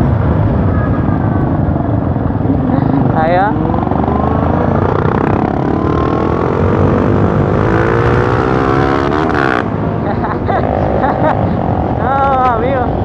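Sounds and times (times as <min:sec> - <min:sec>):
motorcycle engine accelerating: 0:01.9 - 0:12.4.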